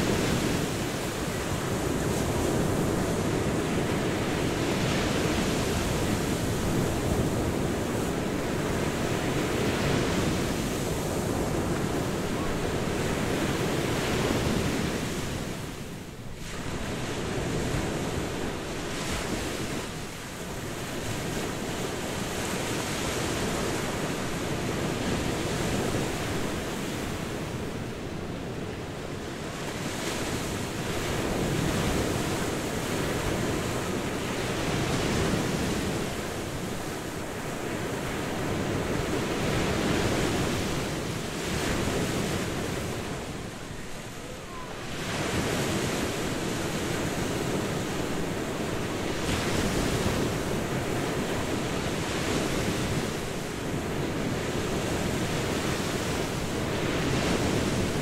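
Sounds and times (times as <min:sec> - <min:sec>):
sea waves breaking on a beach: 0:00.0 - 0:58.0.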